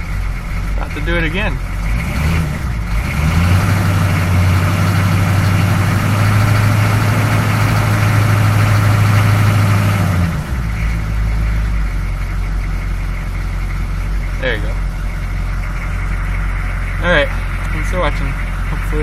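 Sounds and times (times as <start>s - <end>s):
diesel engine rough idle: 0.0s - 19.0s.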